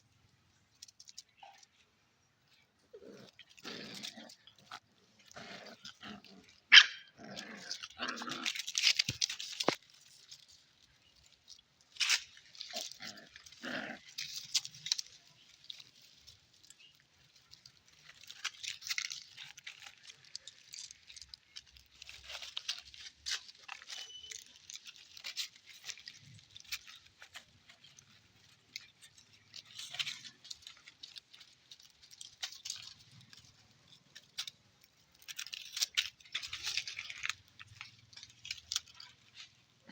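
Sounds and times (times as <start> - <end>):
scratching and rustling: 0.0 - 39.9.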